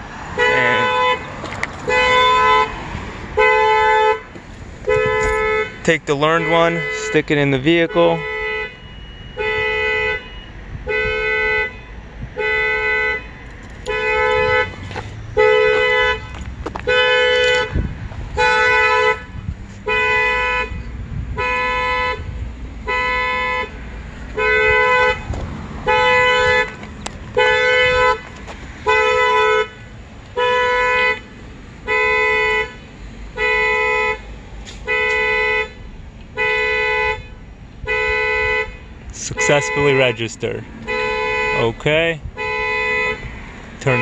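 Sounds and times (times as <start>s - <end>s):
car horn honking: 0.0s - 44.0s.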